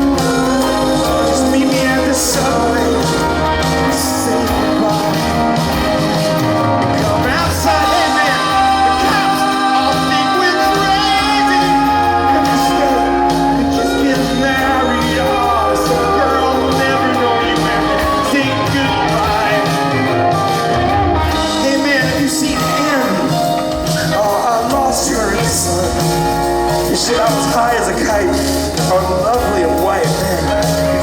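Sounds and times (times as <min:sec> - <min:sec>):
live rock band playing: 0:00.0 - 0:31.0
person singing: 0:00.0 - 0:31.0.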